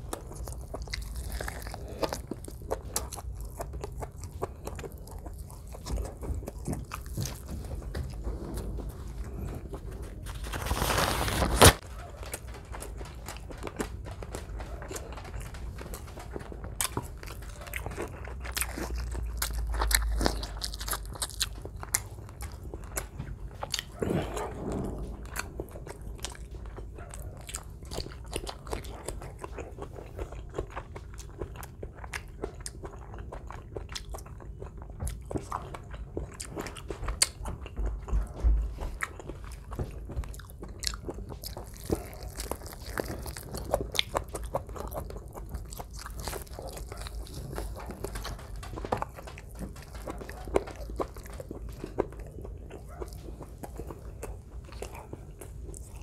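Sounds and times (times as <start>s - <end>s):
biting and crunching: 0.0s - 56.0s.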